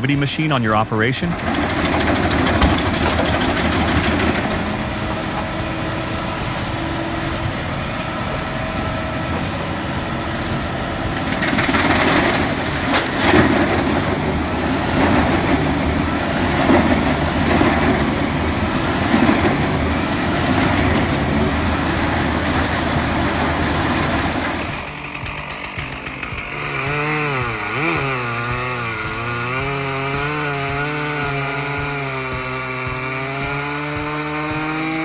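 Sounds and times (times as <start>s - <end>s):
wood chipper engine running: 0.0s - 35.0s
wood being chipped: 1.3s - 35.0s.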